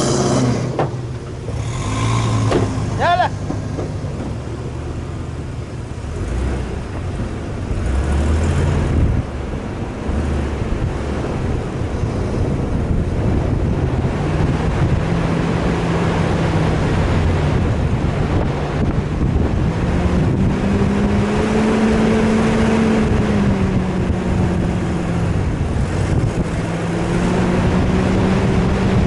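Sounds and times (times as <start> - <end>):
vehicle engine running: 0.0 - 29.0
wind and road noise: 0.0 - 29.0.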